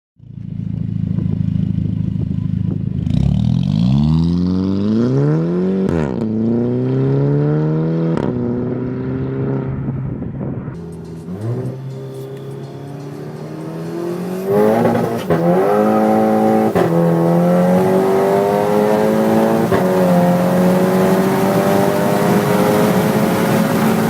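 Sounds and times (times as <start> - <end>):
car engine accelerating: 0.2 - 24.0.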